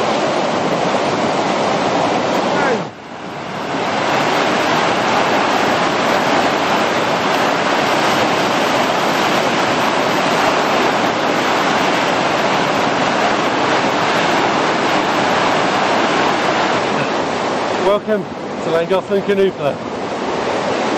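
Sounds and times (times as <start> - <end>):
river rapids rushing: 0.0 - 20.9.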